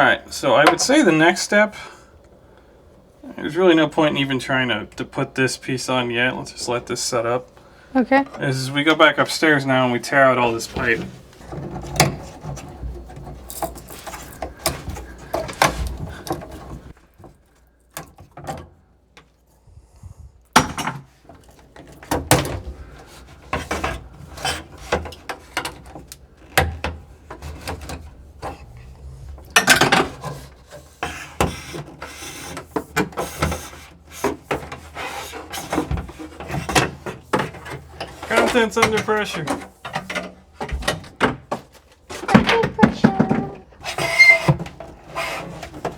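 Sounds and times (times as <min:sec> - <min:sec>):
objects knocking and scraping: 0:00.0 - 0:02.3, 0:06.2 - 0:19.3, 0:20.5 - 0:45.9.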